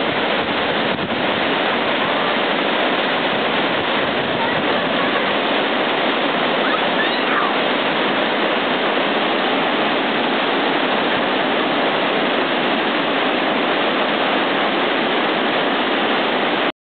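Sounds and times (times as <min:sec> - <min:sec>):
whitewater rushing over rocks: 0:00.0 - 0:16.7.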